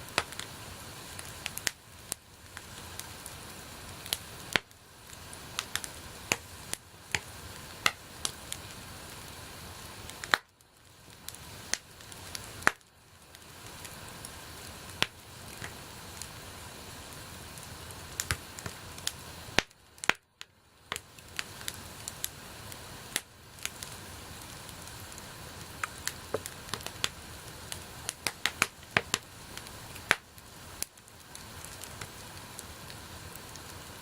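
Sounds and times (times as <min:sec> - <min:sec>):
bonfire crackling: 0:00.0 - 0:34.0.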